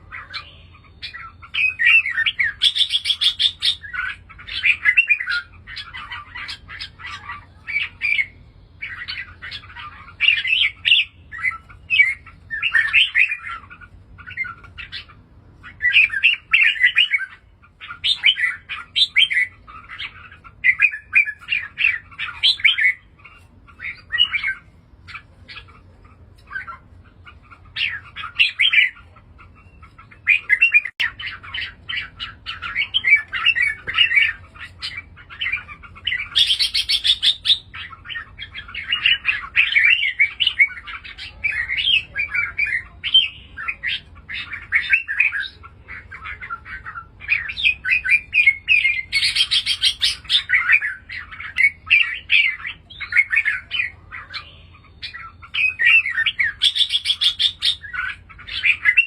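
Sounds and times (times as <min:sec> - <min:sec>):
birds singing chirpy phrases: 0:00.0 - 0:59.0
harsh high bird calls: 0:00.0 - 0:59.0.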